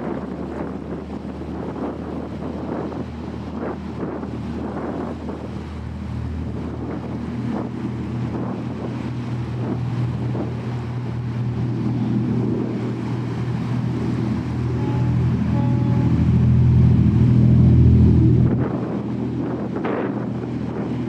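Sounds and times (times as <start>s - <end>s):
boat wash rushing: 0.0s - 21.0s
ferry engines droning: 0.0s - 21.0s
wind on microphone: 0.0s - 21.0s.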